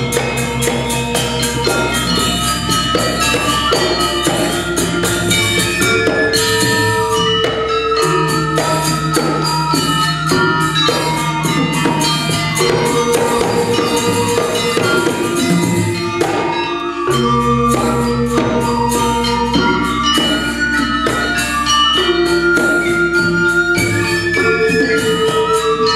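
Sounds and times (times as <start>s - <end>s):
hand drums: 0.0s - 25.9s
metallic percussion clatter: 0.0s - 25.9s
metallophones ringing: 0.0s - 25.9s.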